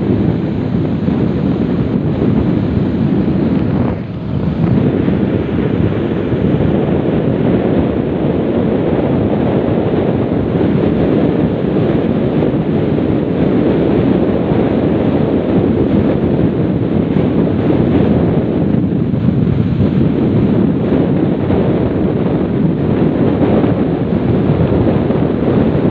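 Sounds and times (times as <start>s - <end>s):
wind rushing over microphone: 0.0s - 25.9s.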